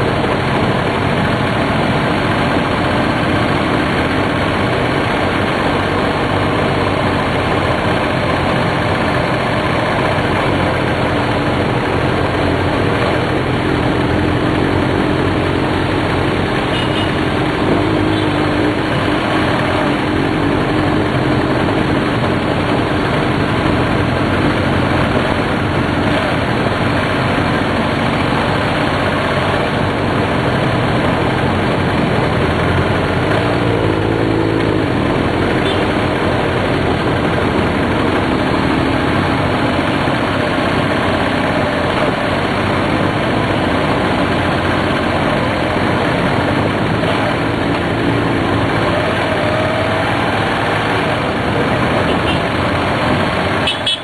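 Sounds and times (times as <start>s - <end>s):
dense rush of noise: 0.0s - 53.7s
motorcycle engine running: 0.0s - 54.0s.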